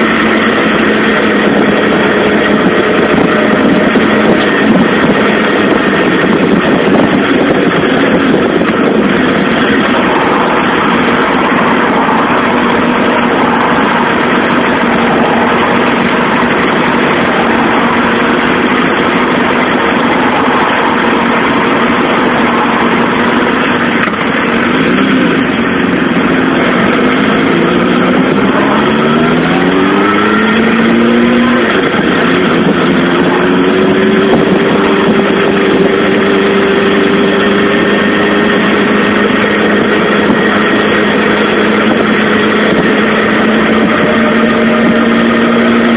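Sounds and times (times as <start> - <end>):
loud rushing noise: 0.0 - 45.9
motorcycle engine running: 0.0 - 45.9.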